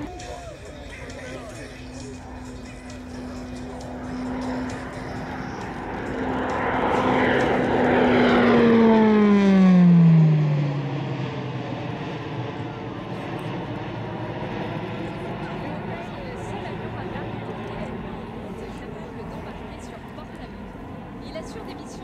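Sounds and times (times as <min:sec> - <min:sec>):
propeller aircraft passing by: 0:00.0 - 0:22.0.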